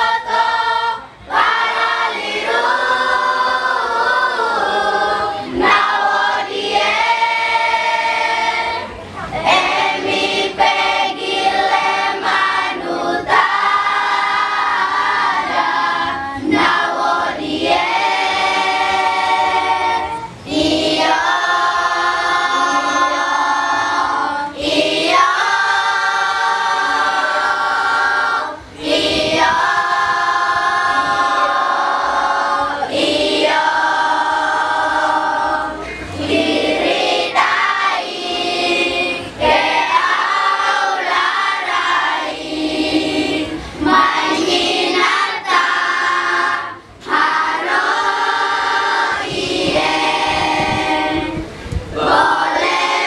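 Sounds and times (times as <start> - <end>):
choir singing unaccompanied: 0.0 - 53.0.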